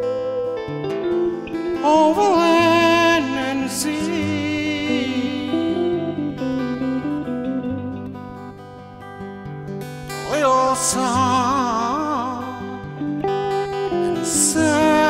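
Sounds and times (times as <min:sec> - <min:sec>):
slow acoustic guitar music: 0:00.0 - 0:15.0.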